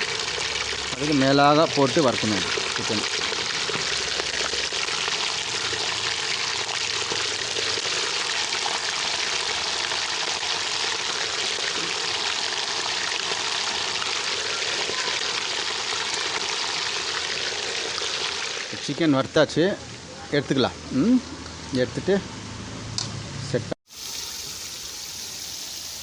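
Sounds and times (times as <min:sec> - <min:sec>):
chicken frying in hot oil: 0:00.0 - 0:19.1, 0:23.9 - 0:26.0.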